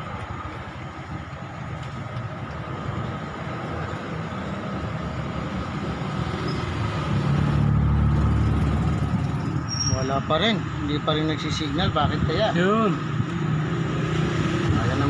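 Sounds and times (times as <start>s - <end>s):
road traffic noise: 0.0s - 15.0s
vehicle engine rumble: 0.0s - 15.0s.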